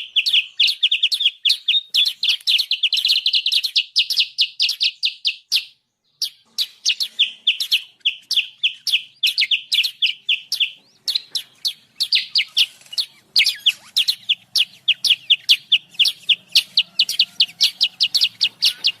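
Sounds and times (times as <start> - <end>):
bird calling in sharp chirps: 0.0 - 19.0.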